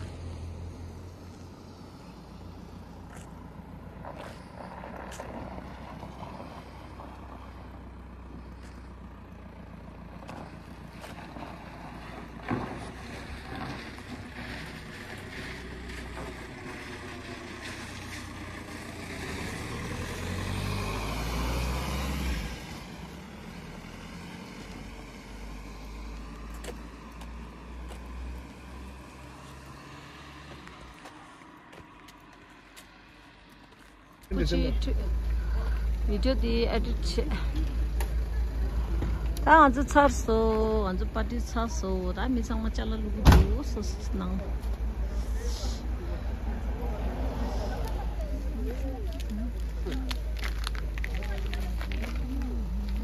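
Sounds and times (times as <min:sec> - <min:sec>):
vehicle passing on street: 0:00.0 - 0:53.0.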